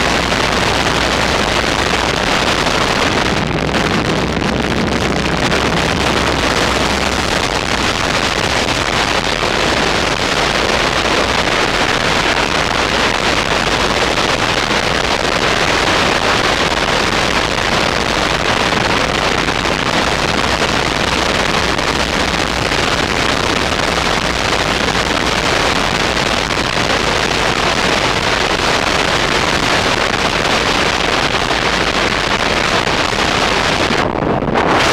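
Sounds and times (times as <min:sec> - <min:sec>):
wind rush on microphone: 0:00.0 - 0:34.9.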